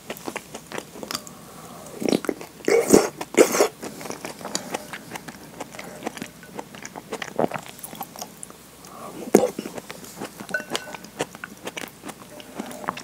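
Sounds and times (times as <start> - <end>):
chewing noodles: 0.0 - 13.0.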